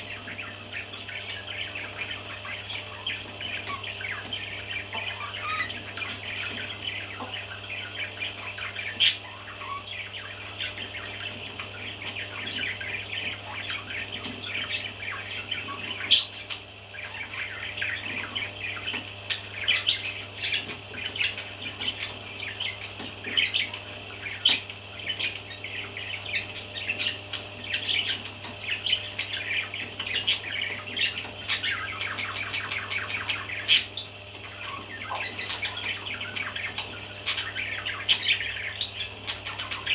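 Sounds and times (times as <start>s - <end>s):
baby parrots chirping: 0.0s - 39.9s.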